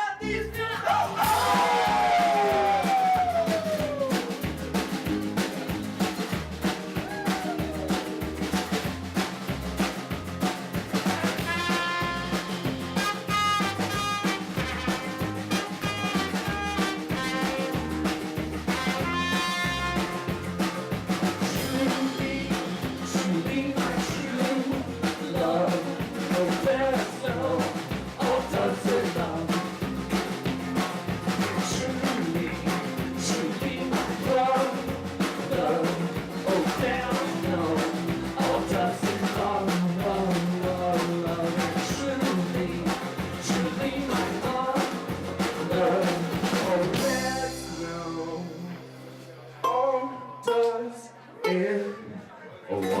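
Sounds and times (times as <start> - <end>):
person singing: 0.0 - 4.7, 6.9 - 8.4, 11.0 - 20.3, 21.2 - 49.0, 49.6 - 53.0
band playing rock music: 0.0 - 50.9
steady drum beat: 0.2 - 48.5
bass line: 0.2 - 50.5.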